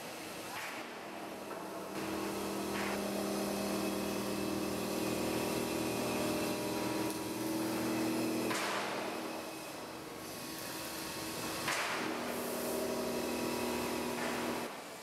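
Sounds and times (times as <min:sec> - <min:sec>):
machine spindle hum: 0:01.0 - 0:14.7.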